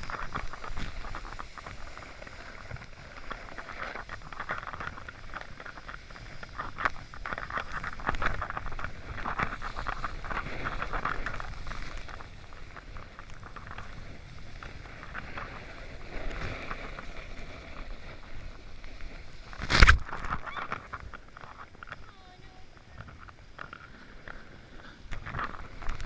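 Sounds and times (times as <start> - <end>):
snowboard scraping over snow: 0.0 - 26.0
wind on microphone: 0.0 - 26.0.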